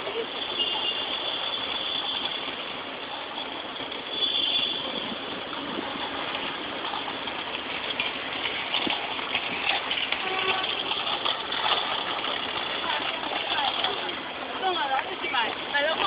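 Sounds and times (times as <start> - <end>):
car running slowly: 0.0 - 16.0
street traffic noise: 0.0 - 16.0.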